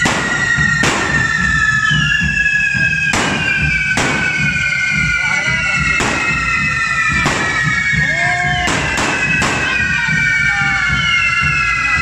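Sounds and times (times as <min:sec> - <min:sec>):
sharp bangs: 0:00.0 - 0:10.3
fireworks whistling: 0:00.0 - 0:12.0.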